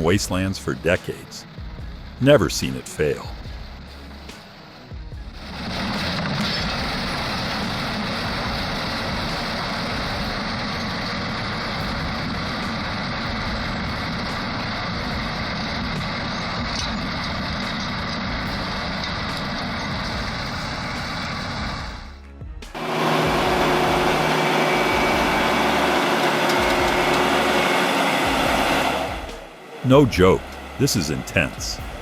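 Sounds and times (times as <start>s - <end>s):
heavy vehicle engine running: 0.0s - 32.0s.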